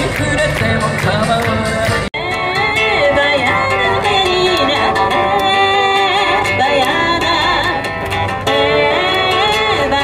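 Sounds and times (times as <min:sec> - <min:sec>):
song with sung vocals: 0:00.0 - 0:10.0.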